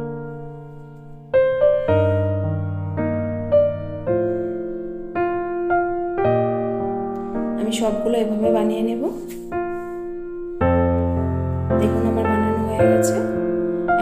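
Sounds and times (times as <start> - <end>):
low keyboard chords: 0.0 - 14.0
slow keyboard melody: 0.0 - 14.0.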